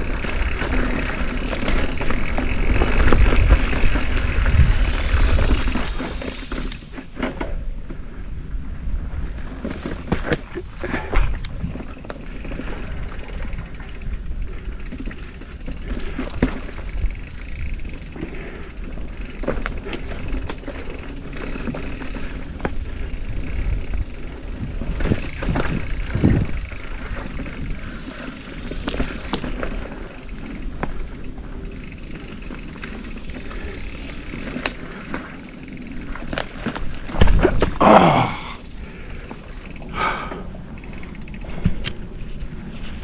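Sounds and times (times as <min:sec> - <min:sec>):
bike knocks and rattles: 0:00.0 - 0:08.1, 0:09.4 - 0:38.6
tyres rumbling on dirt trail: 0:00.0 - 0:43.0.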